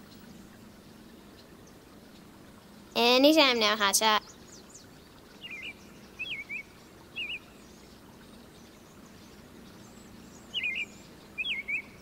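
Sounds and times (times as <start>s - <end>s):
small songbird chirping: 0.0s - 2.8s, 4.2s - 12.0s.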